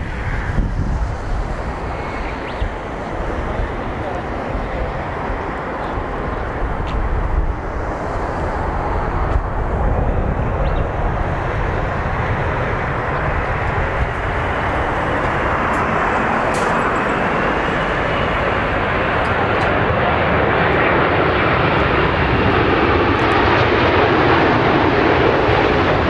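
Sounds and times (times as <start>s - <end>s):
faint jet engine whine: 0.0s - 26.0s
jet engines rushing: 0.0s - 26.0s.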